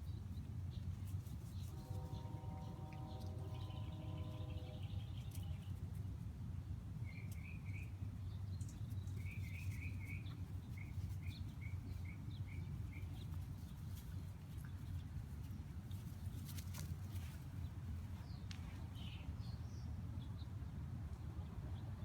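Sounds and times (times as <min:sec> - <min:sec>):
songbird chirping: 0:00.0 - 0:06.1, 0:07.0 - 0:22.0.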